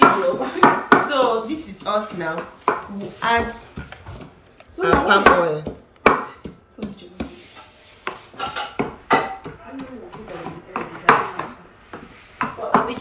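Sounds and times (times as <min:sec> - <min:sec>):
wooden pestle pounding in mortar: 0:00.0 - 0:13.0.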